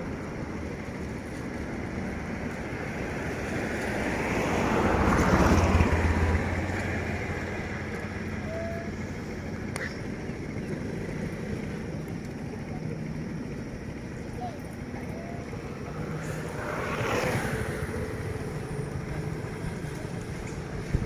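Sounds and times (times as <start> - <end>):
outdoor background noise: 0.0 - 21.0
motor vehicle passing by: 0.8 - 13.6, 14.2 - 21.0.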